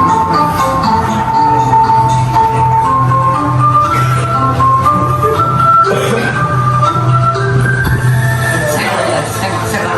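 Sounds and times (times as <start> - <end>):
traditional instrumental music: 0.0 - 9.9.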